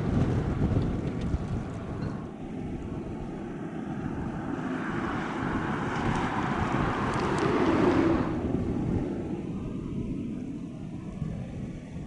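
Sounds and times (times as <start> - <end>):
wind buffeting microphone: 0.0 - 12.0
rushing noise: 1.3 - 12.0.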